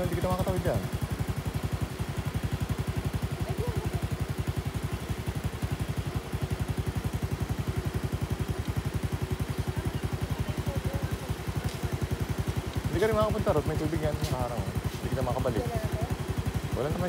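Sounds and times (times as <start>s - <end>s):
small engine puttering: 0.0s - 17.0s.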